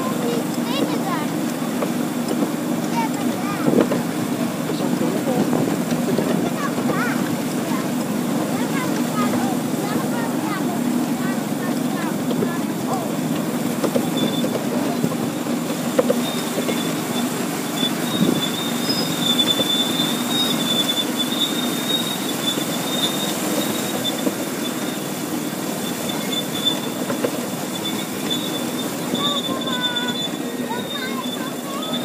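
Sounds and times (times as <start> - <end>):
train wheels rumbling on rails: 0.0 - 32.0
wheel squeal: 0.0 - 32.0.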